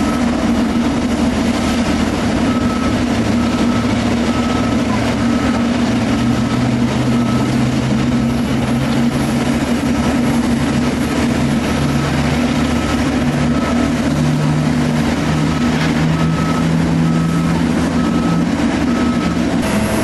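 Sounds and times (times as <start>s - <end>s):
jet engine drone: 0.0s - 20.0s.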